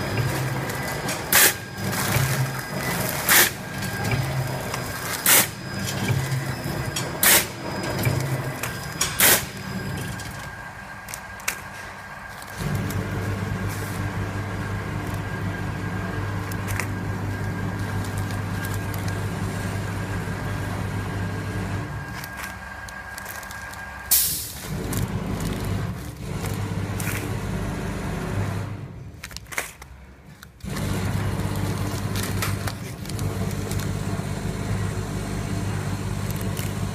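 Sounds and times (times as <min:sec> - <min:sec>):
plastic bags rustling: 0:00.0 - 0:19.8, 0:21.9 - 0:27.4, 0:29.1 - 0:34.6, 0:36.2 - 0:36.9
packing machinery humming: 0:00.0 - 0:36.9.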